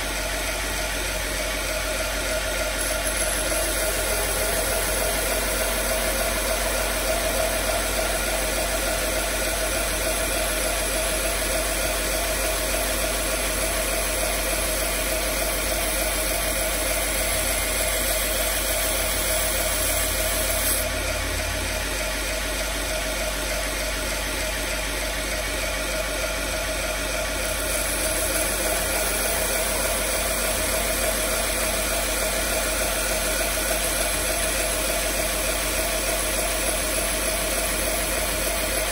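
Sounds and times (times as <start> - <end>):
belt grinder running: 0.0 - 38.9.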